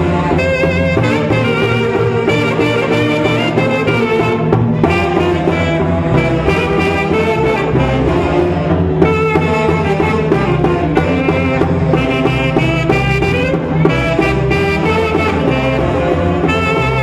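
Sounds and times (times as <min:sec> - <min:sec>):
folk melody over steady beat: 0:00.0 - 0:17.0.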